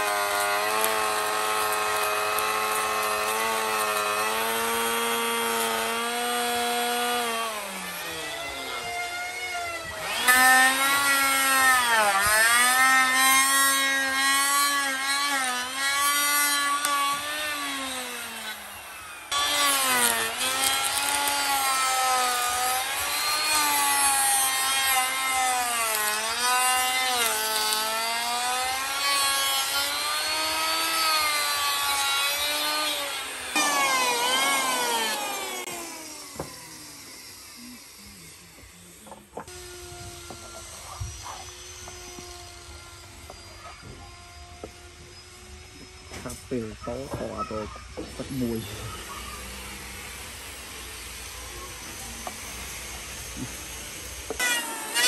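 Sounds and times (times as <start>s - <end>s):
electric router cutting wood: 0.0s - 55.0s.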